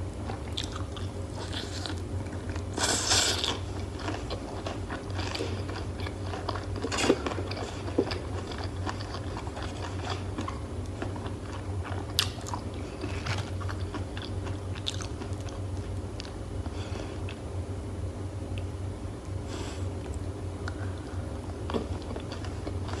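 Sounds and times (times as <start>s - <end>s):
chewing crispy fried food: 0.1s - 17.4s, 20.0s - 23.0s.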